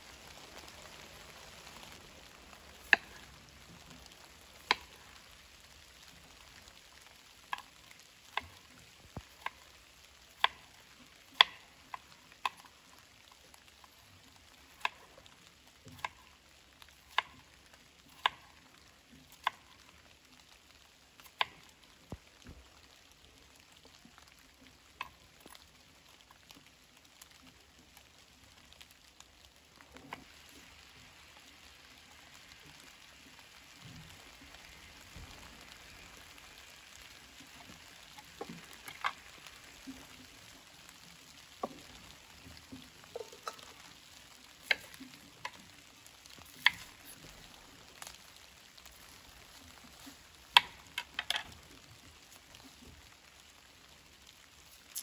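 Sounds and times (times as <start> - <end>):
light rain hiss: 0.0 - 55.0.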